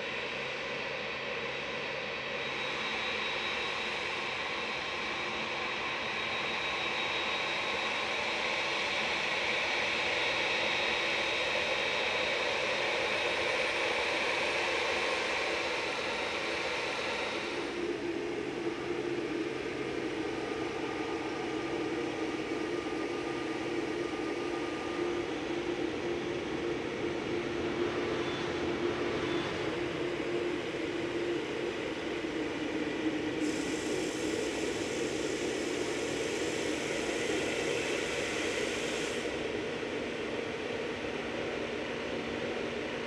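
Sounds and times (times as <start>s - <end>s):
jet engines running: 0.2s - 43.0s.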